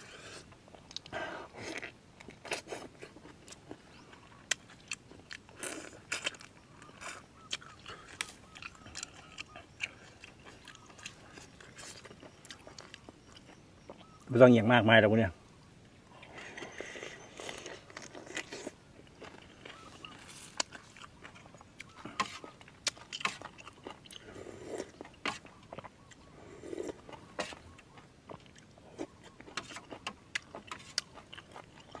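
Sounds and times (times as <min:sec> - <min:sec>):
man chewing and crunching shellfish: 0:00.0 - 0:14.3, 0:16.0 - 0:32.0.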